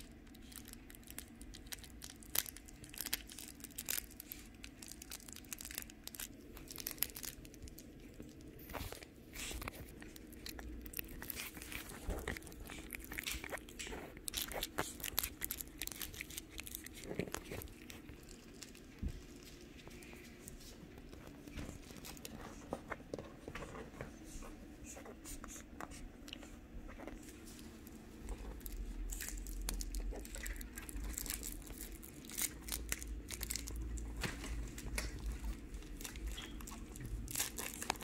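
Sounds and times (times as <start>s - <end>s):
puppies chewing and mouthing: 0.0s - 38.0s.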